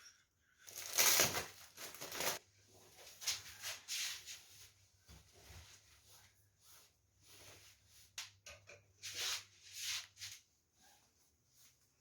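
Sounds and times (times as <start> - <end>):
rustling and handling noises: 0.6 - 12.0.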